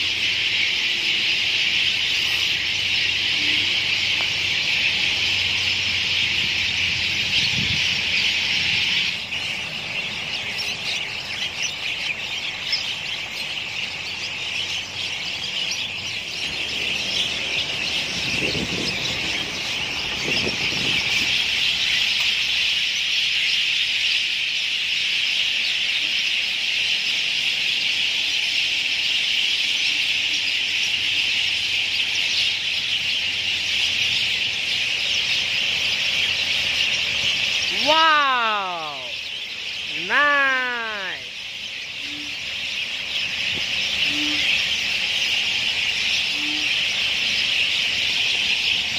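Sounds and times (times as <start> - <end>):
flock of birds chattering: 0.0 - 48.9.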